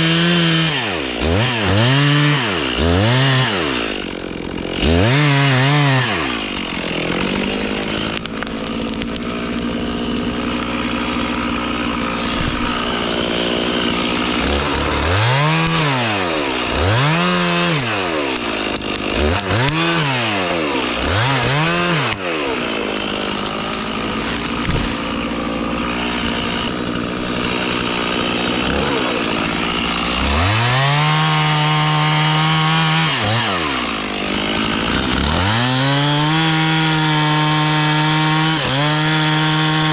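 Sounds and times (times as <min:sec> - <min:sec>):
engine revving: 0:04.7 - 0:39.9.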